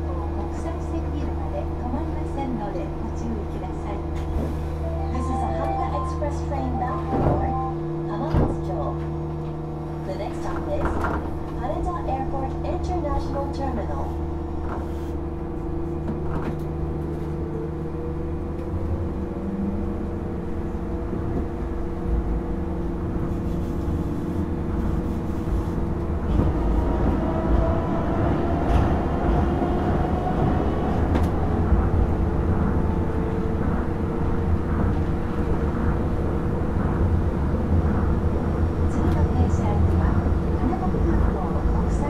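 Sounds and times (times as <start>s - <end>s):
train running low rumble: 0.0s - 42.0s.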